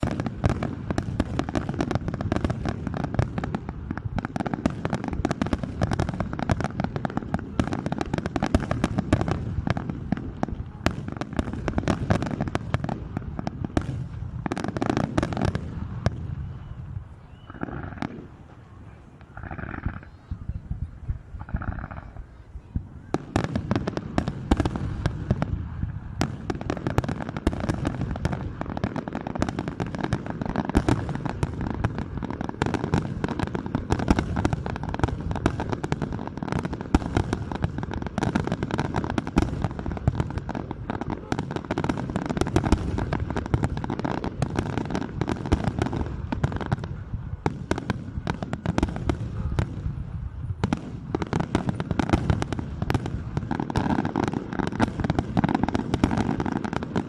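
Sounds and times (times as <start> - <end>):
fireworks bangs and crackling bursts: 0.0 - 57.0.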